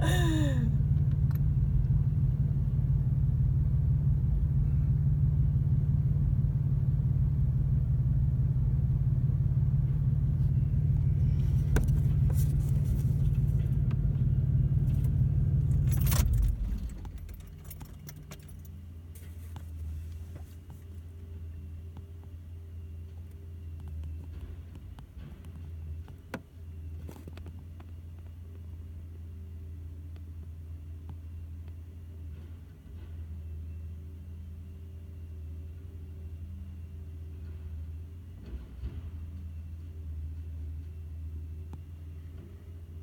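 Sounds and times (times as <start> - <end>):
low hum: 0.0 - 43.0
vehicle engine running: 0.0 - 43.0.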